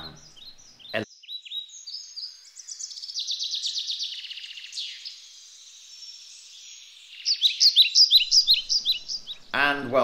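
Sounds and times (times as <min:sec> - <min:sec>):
birds singing: 0:00.0 - 0:10.0.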